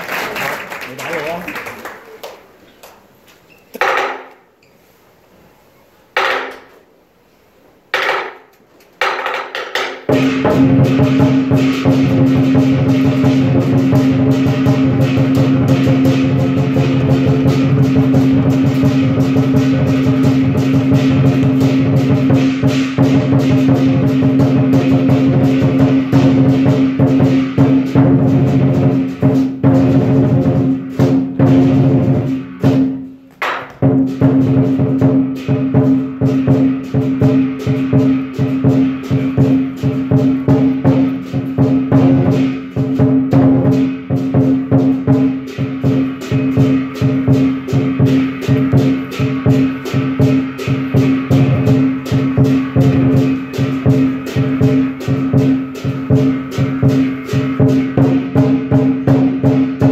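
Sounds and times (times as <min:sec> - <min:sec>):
cymbals clashing: 0:08.0 - 0:59.9
lion drum beating: 0:09.0 - 0:59.9.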